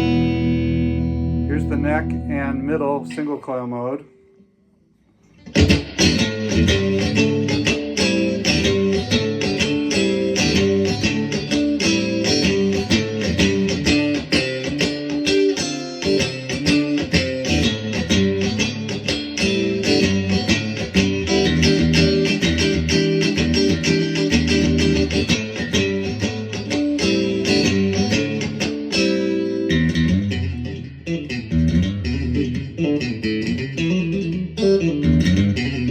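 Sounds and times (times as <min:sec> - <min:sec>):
electric guitar notes and chords: 0:00.0 - 0:04.6, 0:05.3 - 0:35.9.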